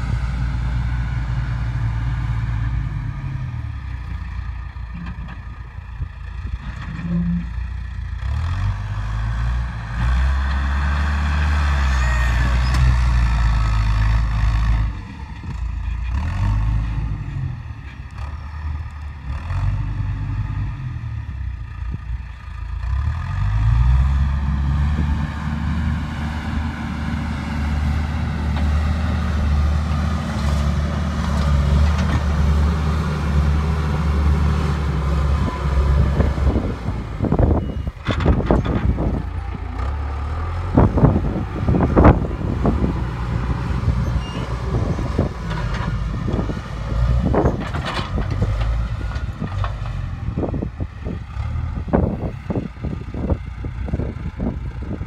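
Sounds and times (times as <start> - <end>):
backhoe diesel engine revving: 0.0 - 55.0.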